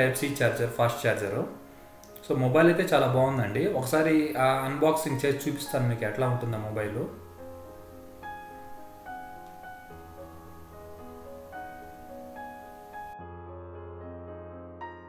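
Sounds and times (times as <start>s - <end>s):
slow keyboard melody: 0.0s - 15.0s.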